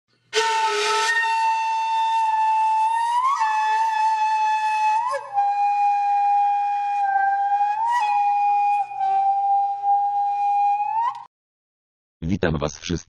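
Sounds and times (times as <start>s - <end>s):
flute-like wind instrument melody: 0.3s - 11.3s.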